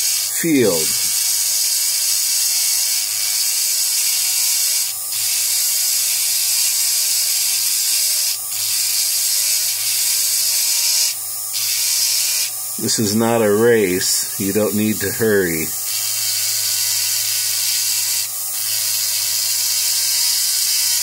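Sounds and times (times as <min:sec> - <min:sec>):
rotary tool grinding stone: 0:00.0 - 0:14.0, 0:15.5 - 0:21.0.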